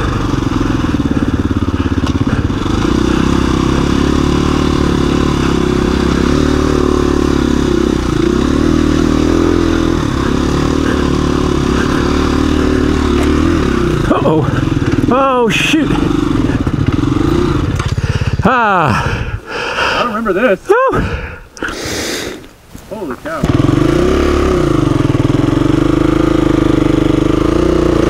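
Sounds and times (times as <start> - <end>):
dirt bike engine running: 0.0 - 20.3, 23.4 - 28.0.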